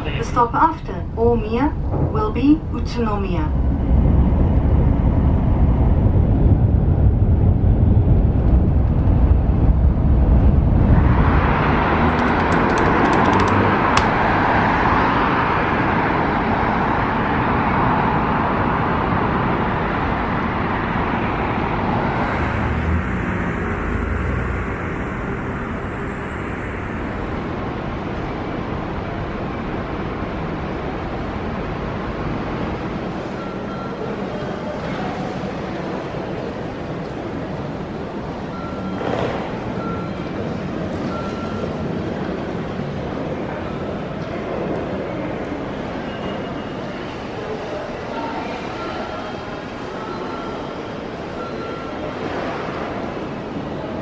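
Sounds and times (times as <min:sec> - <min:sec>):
street traffic passing cars: 0:00.0 - 0:54.0
train rumble inside passenger car: 0:00.0 - 0:54.0.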